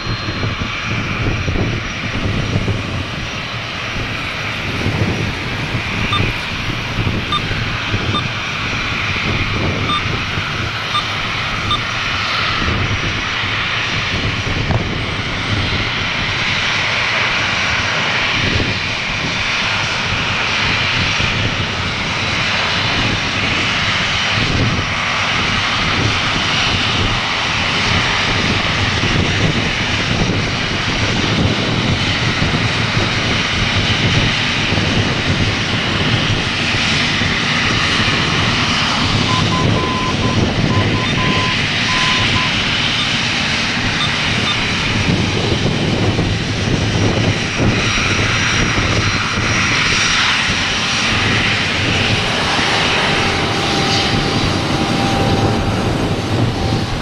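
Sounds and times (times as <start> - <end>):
jet engines taxiing: 0.0 - 57.0.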